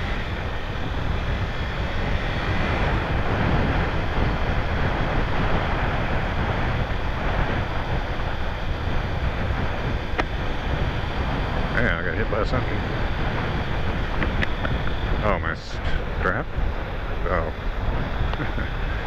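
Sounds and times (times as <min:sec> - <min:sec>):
motorcycle engine rumble: 0:00.0 - 0:19.0
wind rushing over microphone: 0:00.0 - 0:19.0.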